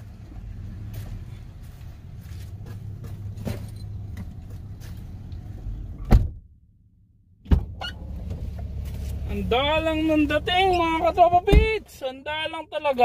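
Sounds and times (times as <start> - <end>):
car road rumble from inside: 0.0 - 6.4, 7.4 - 13.0.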